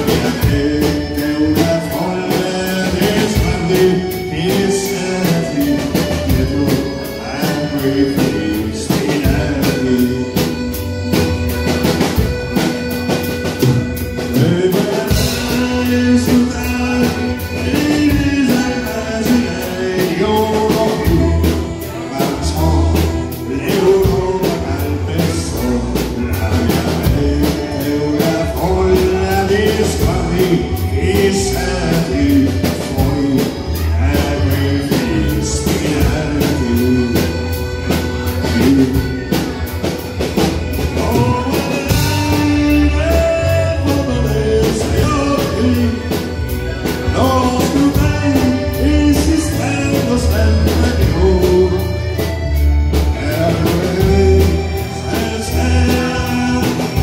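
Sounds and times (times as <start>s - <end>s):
accordion: 0.0s - 57.0s
bass guitar: 0.0s - 57.0s
electric guitar: 0.0s - 57.0s
man singing into a microphone: 0.0s - 57.0s
steady drum beat: 0.0s - 57.0s.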